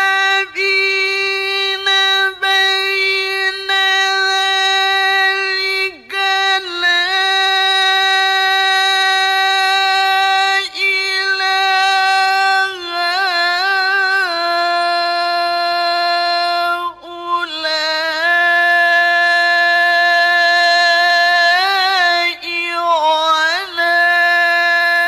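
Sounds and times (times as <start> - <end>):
man reciting melodically: 0.0 - 25.0.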